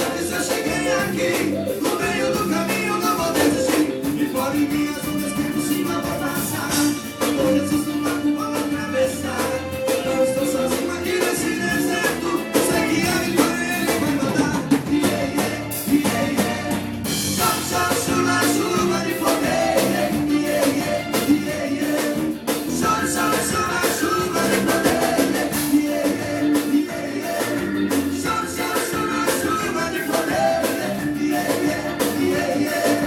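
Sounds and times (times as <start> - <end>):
band playing upbeat music: 0.0 - 33.0
drum kit beat: 0.0 - 33.0.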